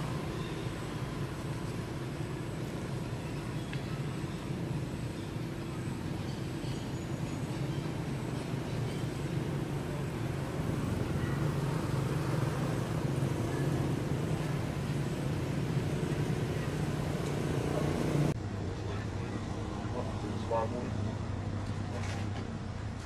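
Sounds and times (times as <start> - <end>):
low rumble with hiss: 0.0 - 23.0.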